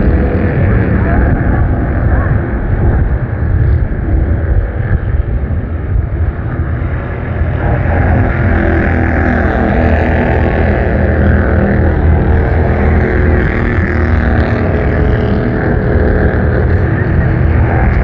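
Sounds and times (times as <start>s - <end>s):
race car engines at speed: 0.0s - 18.0s.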